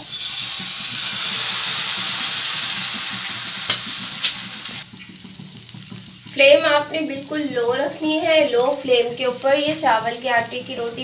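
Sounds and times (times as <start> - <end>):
batter sizzling in a frying pan: 0.0 - 11.0.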